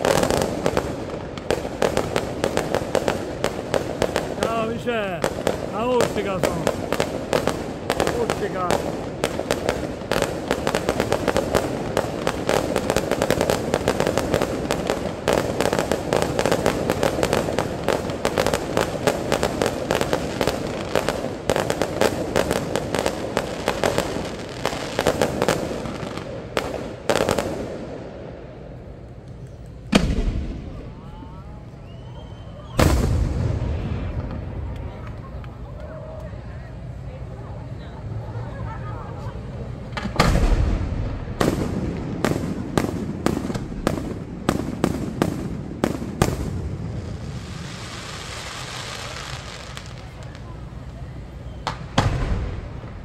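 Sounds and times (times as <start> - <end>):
loud firework booms: 0.0 - 28.5, 29.9 - 31.3, 32.6 - 35.0, 39.8 - 50.5, 51.5 - 53.0
fireworks crackling and banging: 0.0 - 53.0.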